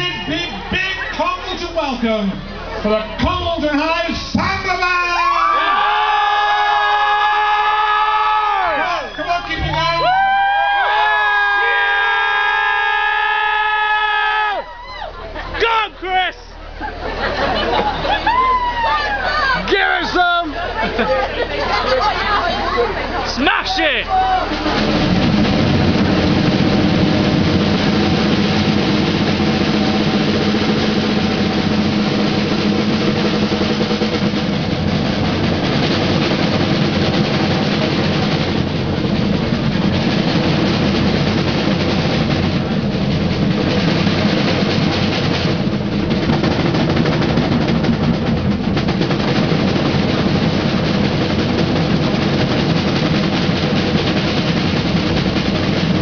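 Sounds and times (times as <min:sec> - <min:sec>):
samba drumming: 0:00.0 - 0:02.0, 0:03.1 - 0:15.0, 0:17.0 - 0:56.0.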